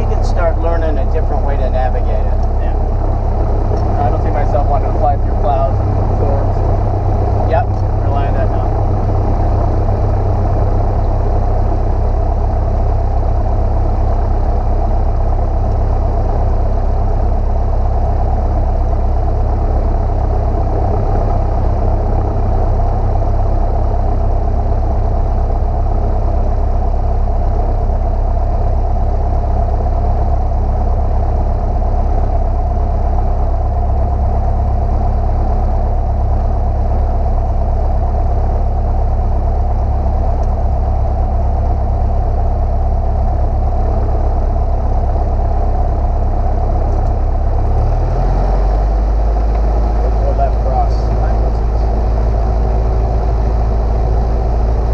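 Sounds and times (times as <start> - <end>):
airplane engine and propeller droning: 0.0 - 54.9.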